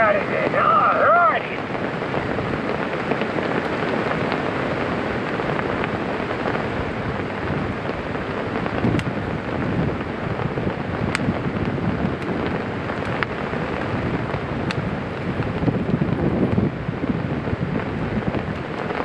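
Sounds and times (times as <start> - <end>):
rain: 0.0 - 19.0
wind buffeting microphone: 0.0 - 19.0.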